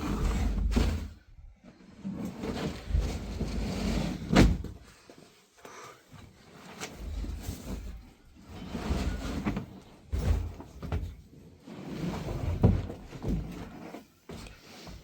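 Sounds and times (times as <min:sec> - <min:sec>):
things being handled and moved: 0:00.0 - 0:15.0.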